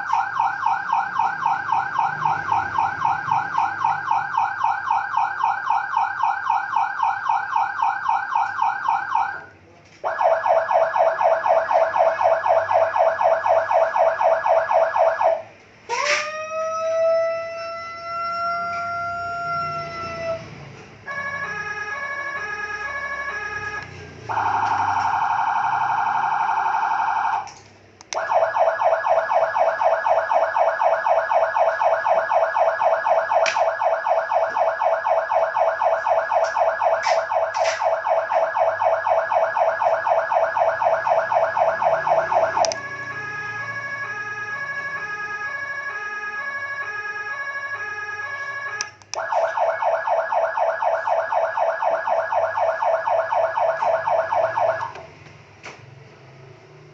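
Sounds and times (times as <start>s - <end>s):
electronic vehicle siren: 0.0s - 55.2s.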